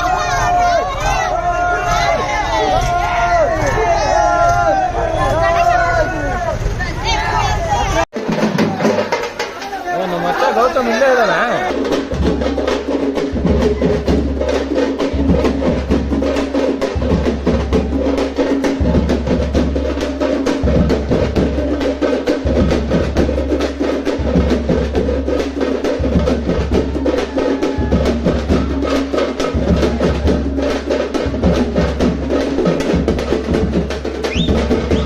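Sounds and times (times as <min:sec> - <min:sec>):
frame drums beaten fast: 0:00.0 - 0:35.0.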